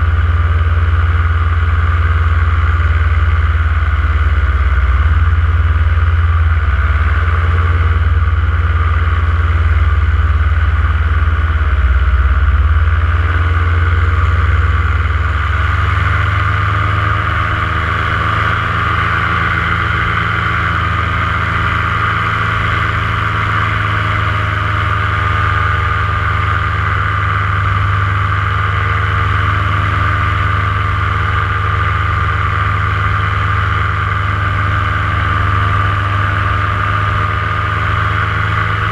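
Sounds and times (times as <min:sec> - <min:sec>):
paramotor engine and propeller: 0:00.0 - 0:38.9.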